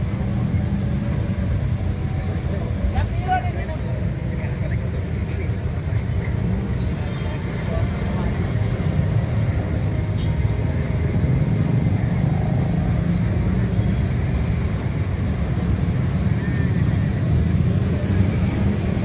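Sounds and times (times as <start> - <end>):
cars passing: 0.0 - 19.0
motorbike and scooter engines: 0.0 - 19.0.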